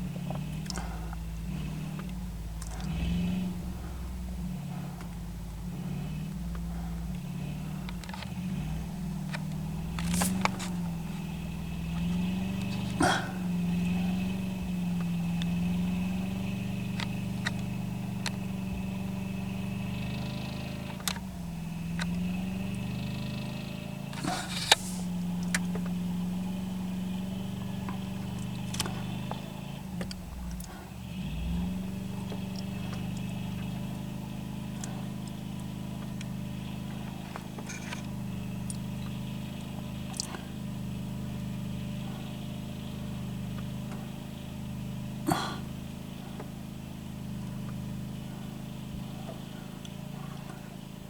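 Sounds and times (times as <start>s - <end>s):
pickup truck engine running: 0.0s - 51.0s.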